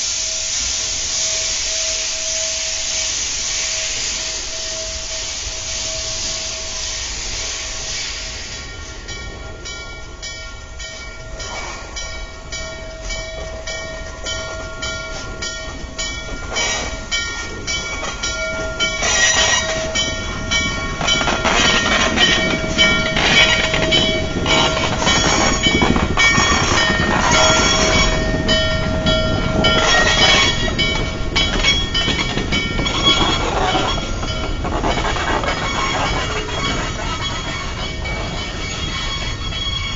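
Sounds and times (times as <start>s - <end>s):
steam locomotive exhaust chuffs: 0.0s - 39.9s.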